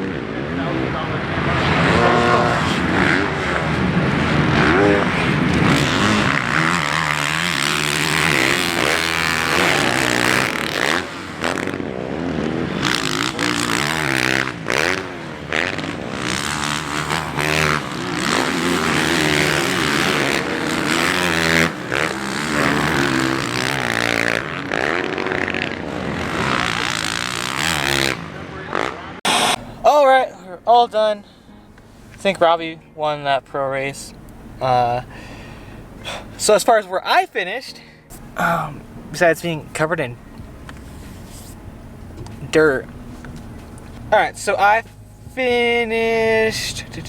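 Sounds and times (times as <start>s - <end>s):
motocross bikes revving: 0.0s - 36.9s, 37.6s - 47.0s.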